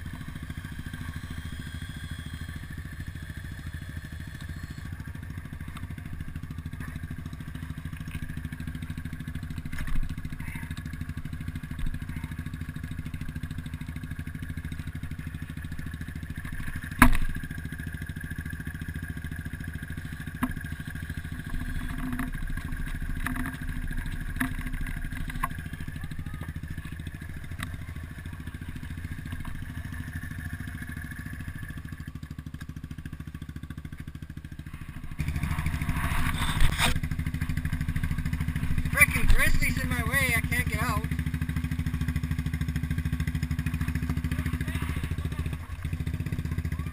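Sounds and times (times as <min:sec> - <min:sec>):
atv engine idling: 0:00.0 - 0:46.9.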